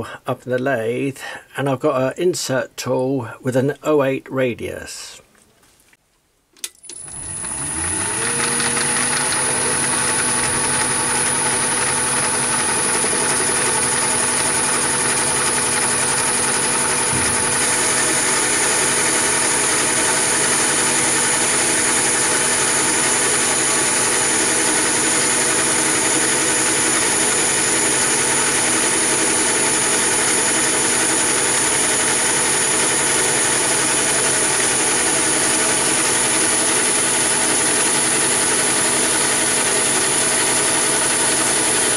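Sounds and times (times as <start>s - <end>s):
tool cutting steel bar: 6.8s - 41.9s
lathe running with high whine: 6.9s - 41.9s.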